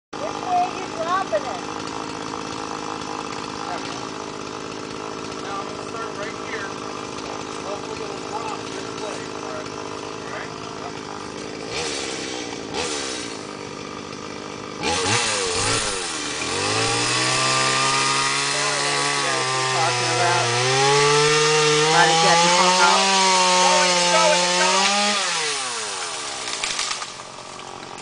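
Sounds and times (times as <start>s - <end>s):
chainsaw cutting tree trunk: 0.2s - 28.0s.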